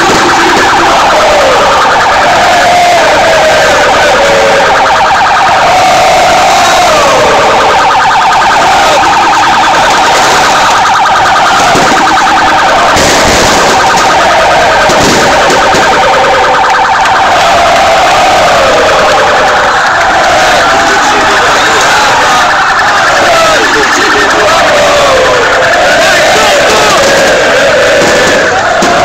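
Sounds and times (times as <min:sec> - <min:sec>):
crowd singing and chanting: 0:00.0 - 0:29.0
fast-pulsing siren-like tone: 0:00.0 - 0:29.0.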